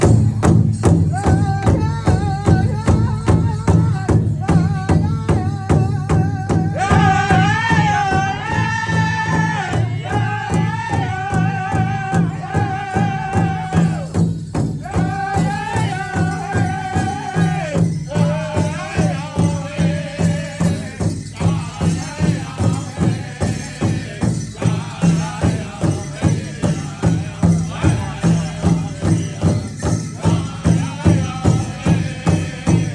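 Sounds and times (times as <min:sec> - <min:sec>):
large drum steady beat: 0:00.0 - 0:32.9.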